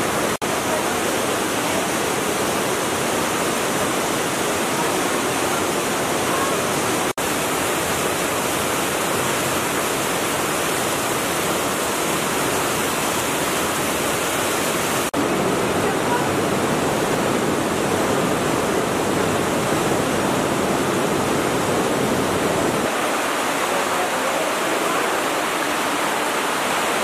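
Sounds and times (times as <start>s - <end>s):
stream pouring over rocks: 0.0s - 27.0s.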